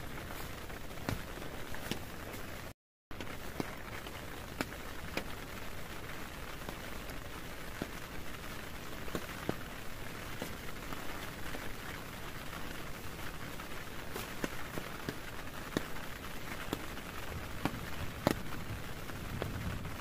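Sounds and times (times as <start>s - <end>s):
heavy rain on a tent: 0.0s - 20.0s.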